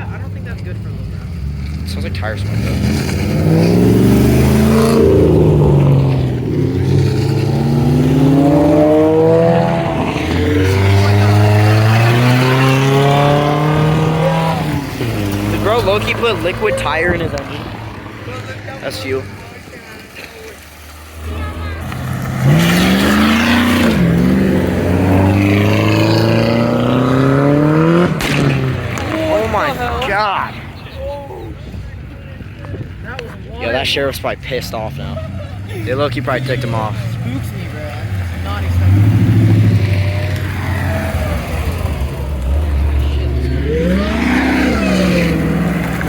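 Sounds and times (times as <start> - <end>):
car engine revving hard: 0.0 - 19.2, 21.2 - 30.2, 34.8 - 46.0.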